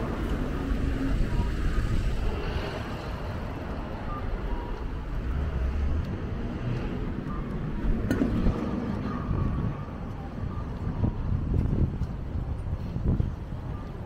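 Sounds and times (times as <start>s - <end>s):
traffic rumble: 0.0s - 14.0s
wind on microphone: 0.0s - 14.0s.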